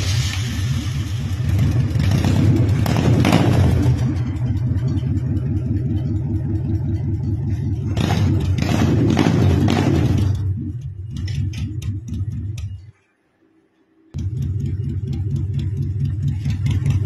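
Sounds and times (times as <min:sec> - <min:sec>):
motorcycle engine idling and revving: 0:00.0 - 0:13.0, 0:14.1 - 0:17.0.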